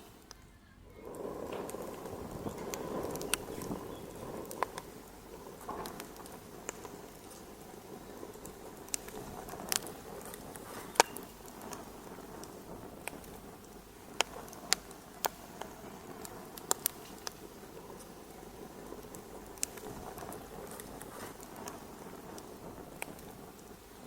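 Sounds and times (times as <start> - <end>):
sharp pops from fire: 0.0 - 24.0
wood fire crackling: 0.0 - 24.0.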